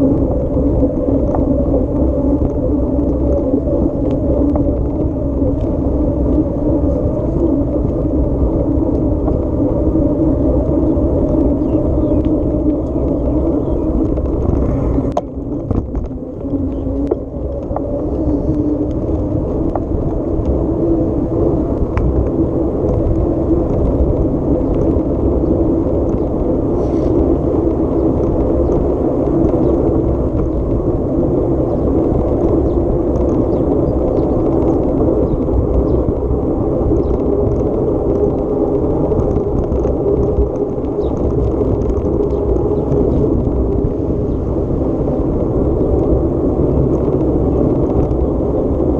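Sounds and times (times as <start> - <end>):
vehicle engine rumbling: 0.0 - 48.9.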